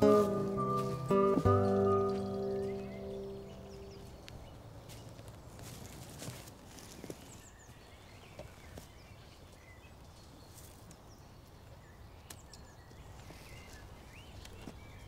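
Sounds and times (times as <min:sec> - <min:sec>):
birds chirping: 0:00.0 - 0:05.9, 0:06.8 - 0:15.0.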